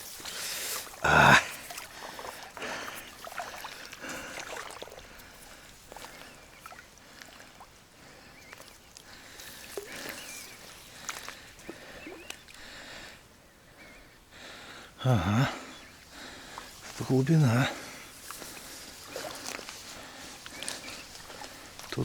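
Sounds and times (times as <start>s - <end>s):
water sloshing and splashing: 0.0s - 13.0s, 16.1s - 22.0s.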